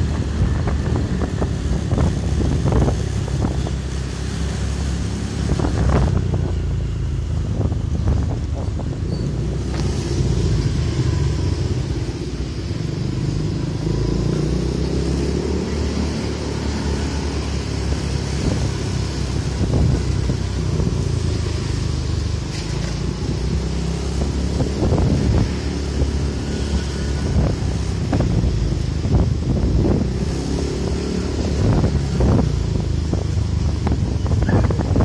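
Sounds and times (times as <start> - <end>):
motorbike engine rumble: 0.0 - 35.0
wind on microphone: 0.0 - 35.0.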